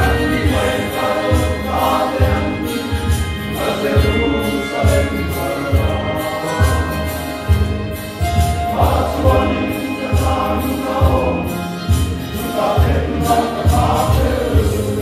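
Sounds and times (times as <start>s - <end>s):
men's choir singing a hymn: 0.0s - 7.8s, 8.6s - 15.0s.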